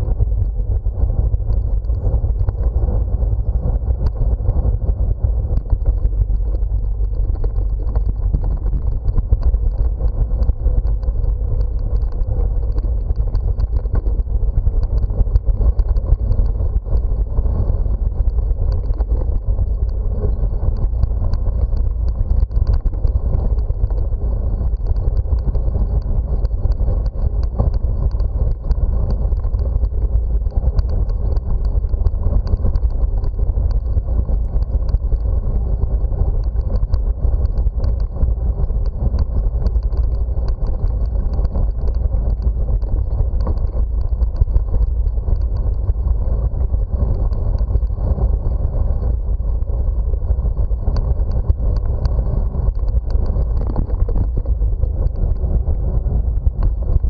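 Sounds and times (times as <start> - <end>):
bicycle tyres rolling over paving: 0.0 - 57.0
wind buffeting microphone: 0.0 - 57.0.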